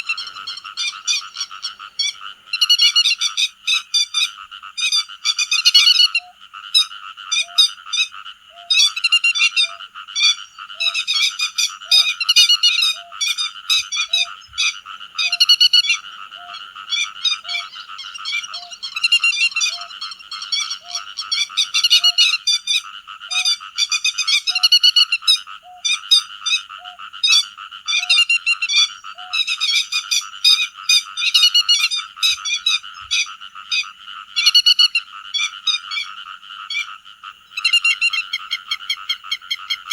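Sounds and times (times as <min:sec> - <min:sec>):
flock of lapwings calling: 0:00.0 - 0:36.1.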